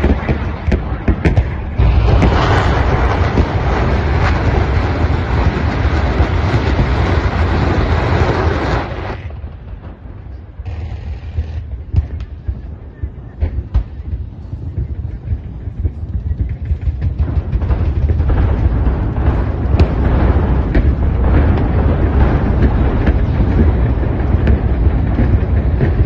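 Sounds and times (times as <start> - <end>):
rocket salvo roaring and cracking: 0.0 - 15.9, 16.5 - 26.0.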